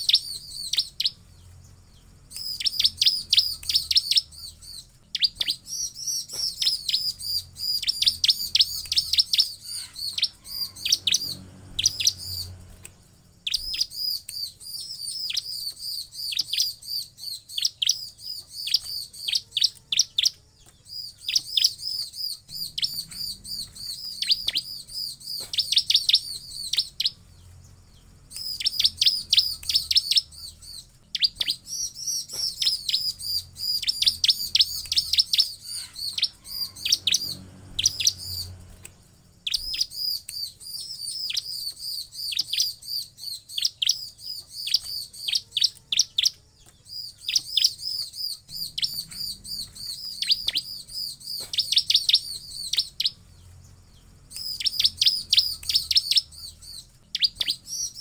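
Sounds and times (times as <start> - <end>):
bird singing high sharp chirps: 0.0 - 58.0.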